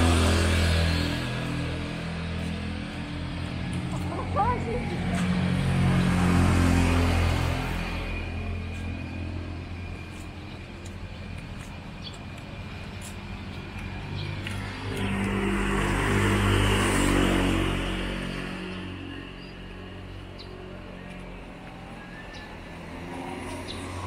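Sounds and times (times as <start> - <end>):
vehicle engine passing: 0.0 - 12.0, 12.6 - 24.0.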